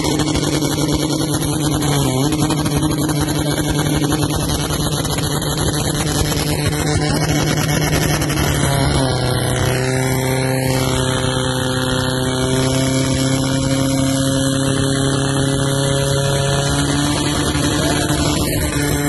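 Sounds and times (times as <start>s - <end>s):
pump engine running at high revs: 0.0s - 19.0s.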